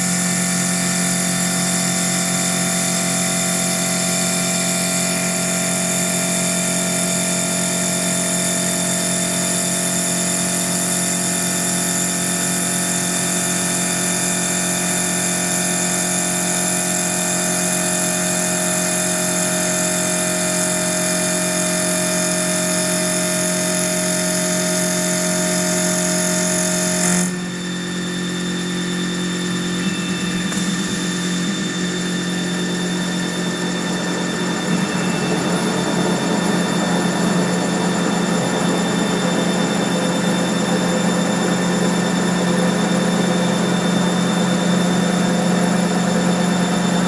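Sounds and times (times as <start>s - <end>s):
wood lathe running: 0.0s - 27.5s, 29.5s - 47.0s.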